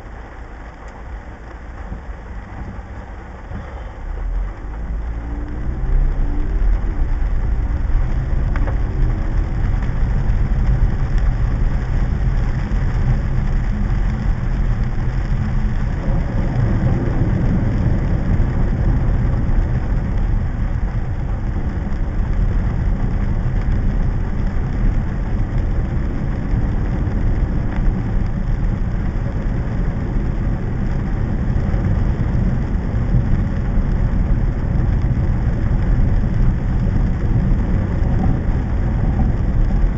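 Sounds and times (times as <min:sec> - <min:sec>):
heavy rain: 0:00.0 - 0:39.9
vehicles on flooded street: 0:00.0 - 0:39.9.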